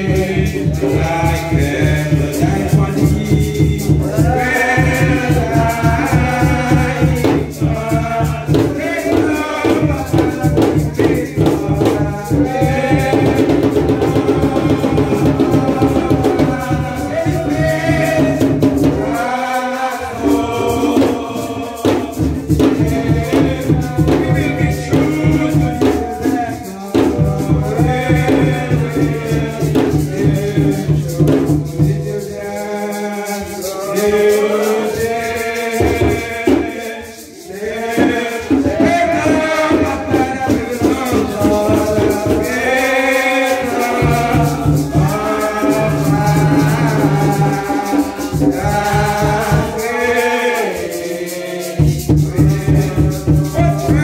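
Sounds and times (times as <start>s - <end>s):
congregation singing a hymn: 0.0s - 54.0s
shakers rattling: 0.0s - 54.0s.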